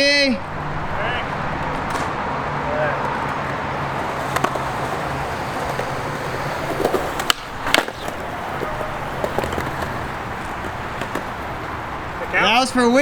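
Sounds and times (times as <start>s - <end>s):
skateboard wheels rolling on concrete: 0.0s - 13.0s
skateboard clacks: 0.4s - 13.0s.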